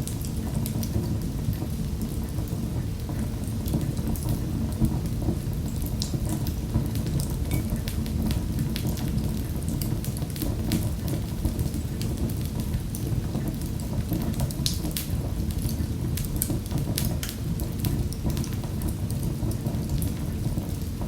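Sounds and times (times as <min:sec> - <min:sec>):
flames rumbling: 0:00.0 - 0:21.0
wood fire crackling: 0:00.0 - 0:21.0.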